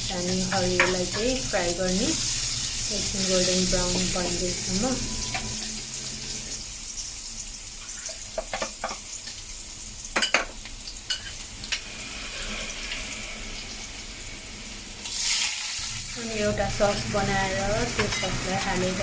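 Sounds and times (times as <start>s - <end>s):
garlic sizzling in oil: 0.0s - 19.0s.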